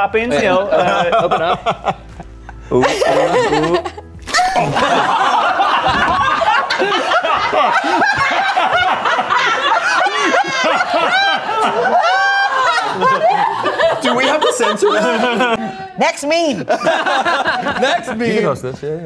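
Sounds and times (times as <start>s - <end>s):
men laughing: 0.3s - 18.8s.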